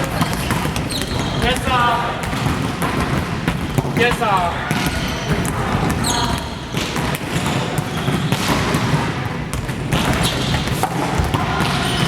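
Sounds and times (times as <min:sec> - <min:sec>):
basketballs bouncing on gym floor: 0:00.0 - 0:12.0.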